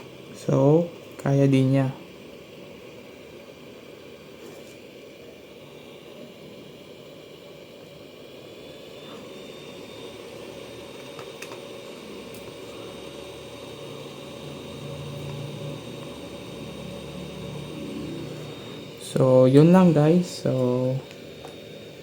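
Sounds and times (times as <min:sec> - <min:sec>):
faint thin whine: 0:00.0 - 0:22.0
hot air blower rushing: 0:00.0 - 0:22.0.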